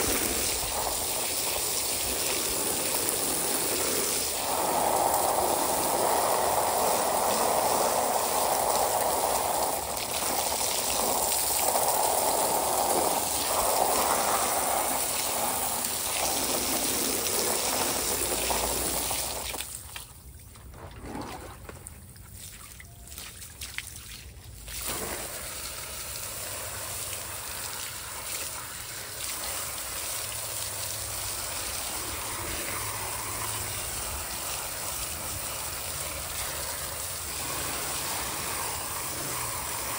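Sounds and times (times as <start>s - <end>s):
hose water spraying on filter: 0.0s - 22.4s, 23.1s - 39.9s
water splashing on concrete: 0.0s - 39.9s.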